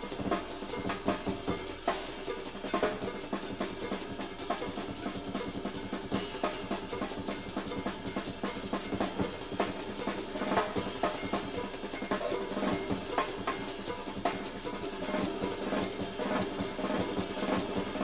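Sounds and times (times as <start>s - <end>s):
live band music: 0.0s - 18.0s
rapid drumming: 0.0s - 18.0s.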